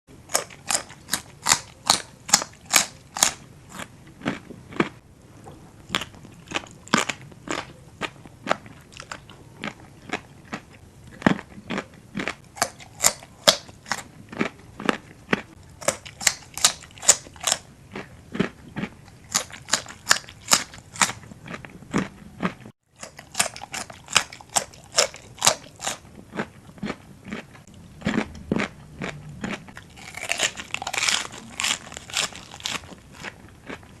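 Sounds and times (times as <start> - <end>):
crunchy chewing: 0.2 - 34.0.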